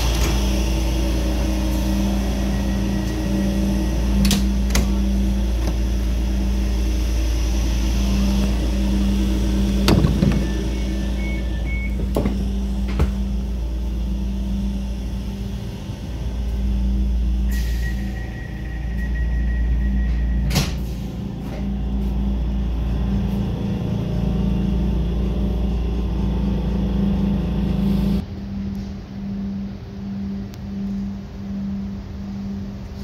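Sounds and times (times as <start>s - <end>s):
steady high tone: 0.0s - 33.0s
train equipment humming: 0.0s - 33.0s.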